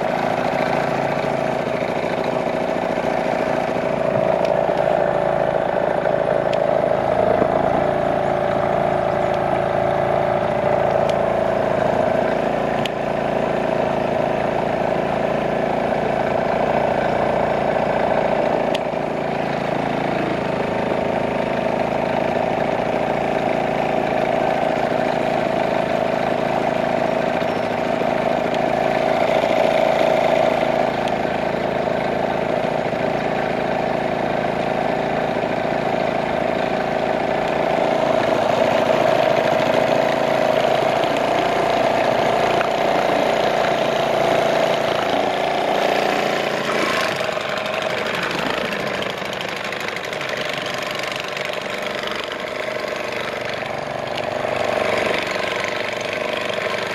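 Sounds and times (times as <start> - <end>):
outboard motor droning: 0.0 - 56.9.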